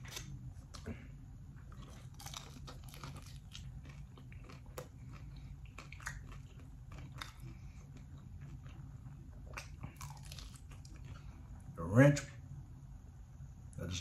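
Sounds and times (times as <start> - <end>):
crunchy chicken wing chewing: 0.0 - 11.7
low hum: 0.0 - 14.0.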